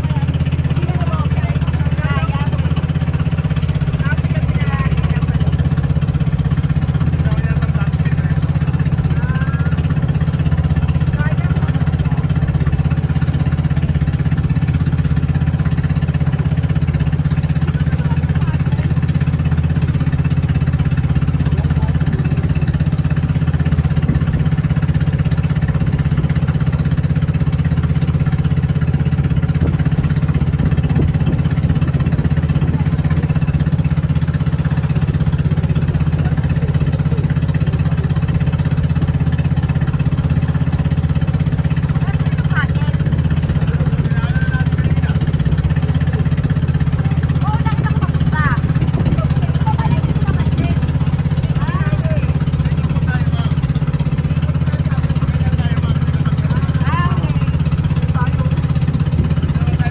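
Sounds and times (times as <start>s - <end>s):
boat engine pulsing drone: 0.0s - 59.9s.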